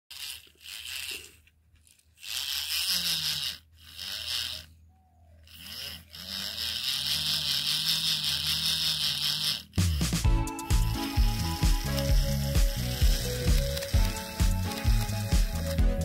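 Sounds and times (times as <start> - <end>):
toy tractor motor buzzing: 0.1 - 16.0.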